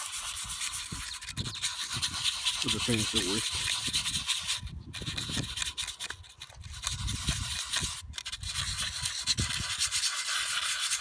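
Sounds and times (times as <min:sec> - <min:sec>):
sandpaper rubbing on metal: 0:00.0 - 0:11.0.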